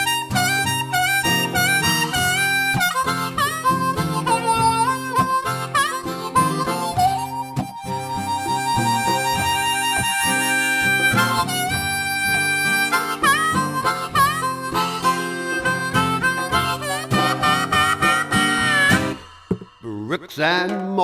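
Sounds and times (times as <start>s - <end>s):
harmonica solo: 0.0s - 20.6s
guitar: 0.0s - 21.0s.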